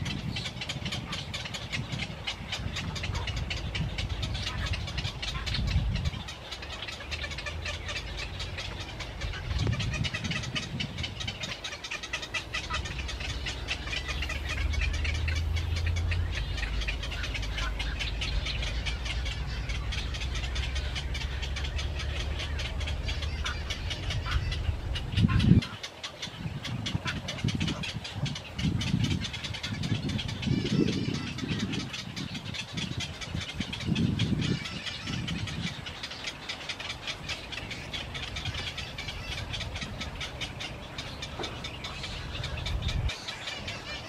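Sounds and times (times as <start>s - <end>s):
small birds chirping: 0.0s - 44.0s
steady low rumble: 0.0s - 44.0s.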